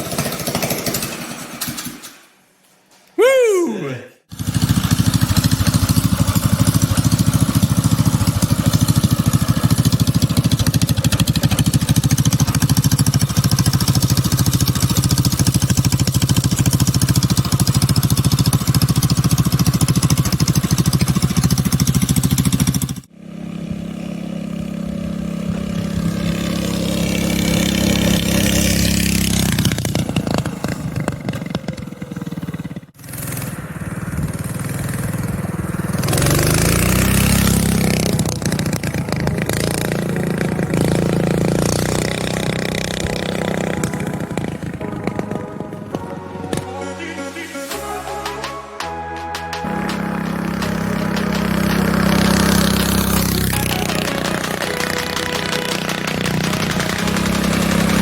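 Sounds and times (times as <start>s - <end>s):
mini bike engine running: 0.0s - 2.1s, 4.3s - 46.7s, 49.6s - 58.0s.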